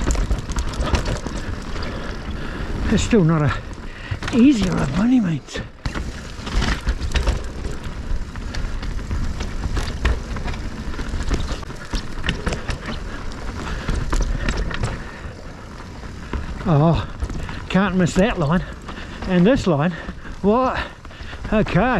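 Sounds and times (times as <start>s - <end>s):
bike rattling and knocking: 0.0s - 21.9s
tyre noise on dirt trail: 0.0s - 21.9s.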